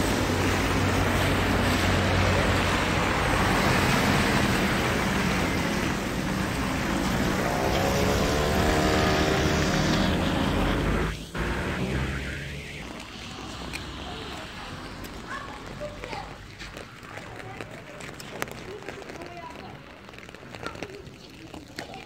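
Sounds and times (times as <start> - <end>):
car tyres on wet street: 0.0 - 22.0
rain hiss: 0.0 - 22.0.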